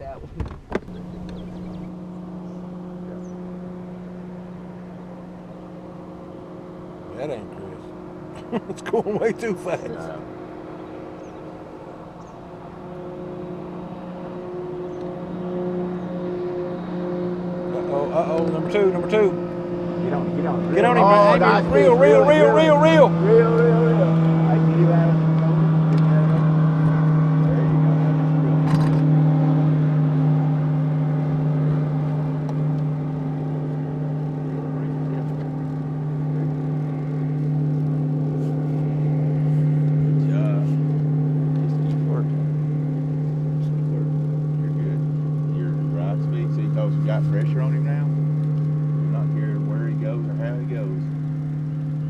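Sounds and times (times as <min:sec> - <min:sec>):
motorboat engine running: 0:00.0 - 0:52.0.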